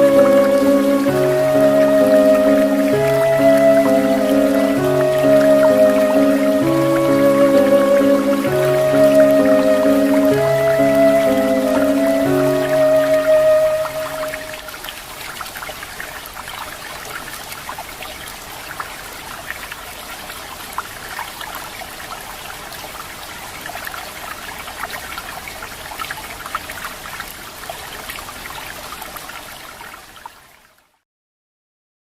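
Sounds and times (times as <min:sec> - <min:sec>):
waterfall splashing: 0:00.0 - 0:30.6.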